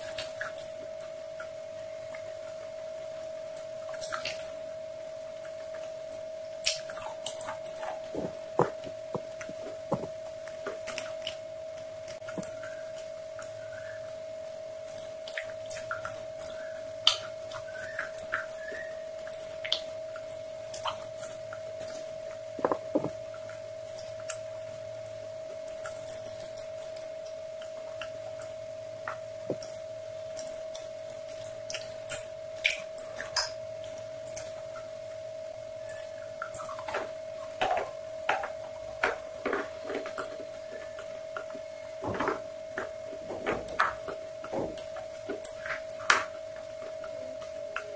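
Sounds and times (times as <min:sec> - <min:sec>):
high electrical whine: 0:00.0 - 0:47.9.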